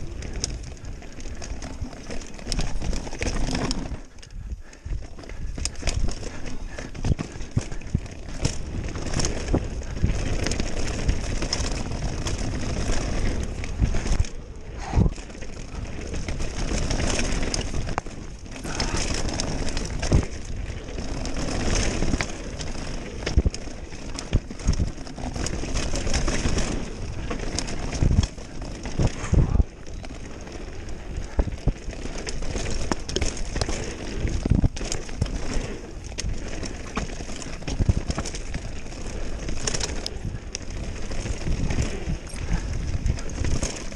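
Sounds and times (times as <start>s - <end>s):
bike rattling: 0.0s - 43.9s
bike tyres rolling over stones: 0.0s - 43.9s
wind buffeting microphone: 0.0s - 43.9s.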